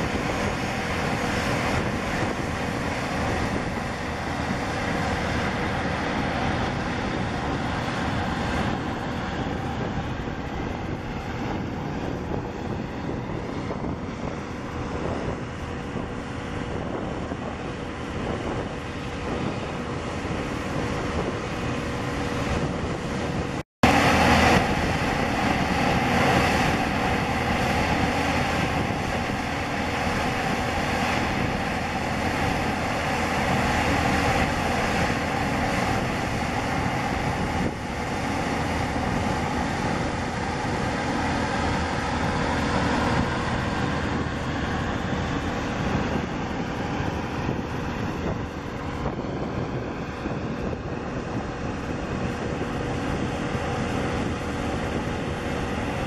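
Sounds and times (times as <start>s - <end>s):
jet engines landing: 0.0s - 56.0s
twin jet engines on approach: 0.0s - 56.0s.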